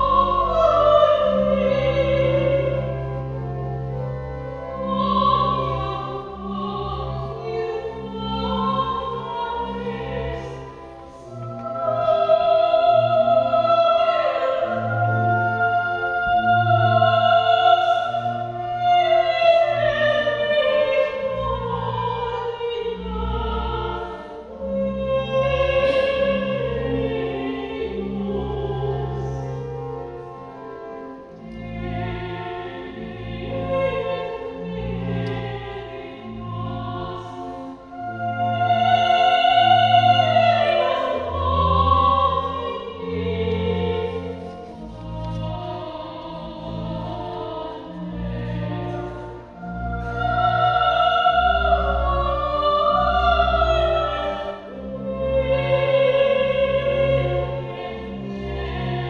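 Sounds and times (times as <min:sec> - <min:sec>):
soprano singing operatic notes: 0:00.0 - 0:59.0.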